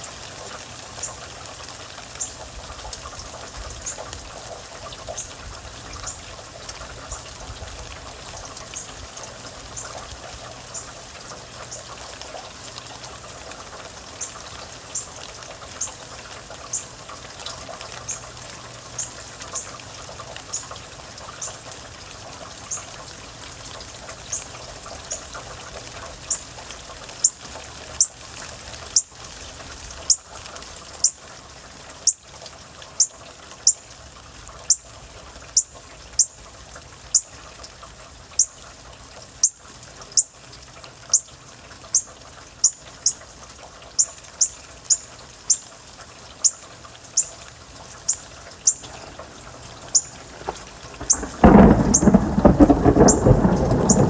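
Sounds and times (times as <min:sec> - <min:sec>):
steady rain: 0:00.0 - 0:54.0
water trickling and dripping: 0:00.0 - 0:54.0.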